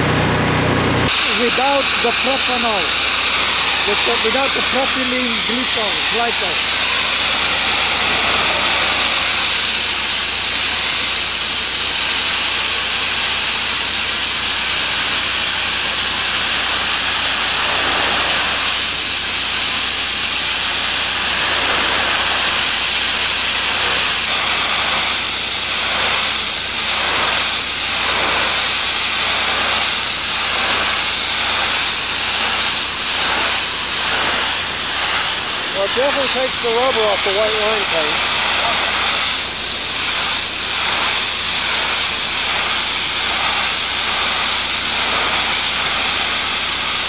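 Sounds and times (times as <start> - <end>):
pressure washer spraying water: 0.0 - 47.0.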